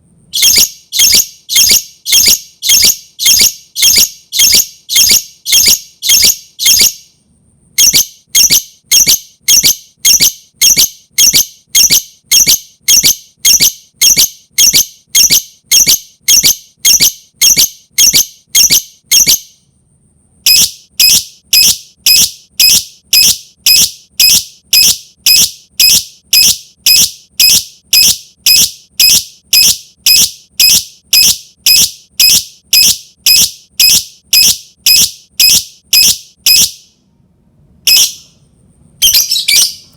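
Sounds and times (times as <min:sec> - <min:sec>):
lovebird shrill calls: 0:00.4 - 0:07.0, 0:07.8 - 0:19.4, 0:20.5 - 0:36.7, 0:37.9 - 0:38.2, 0:39.0 - 0:39.9.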